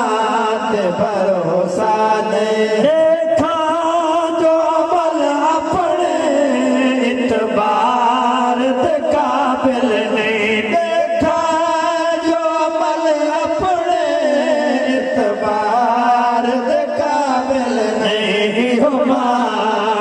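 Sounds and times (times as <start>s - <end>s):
men chanting into microphones: 0.0s - 20.0s.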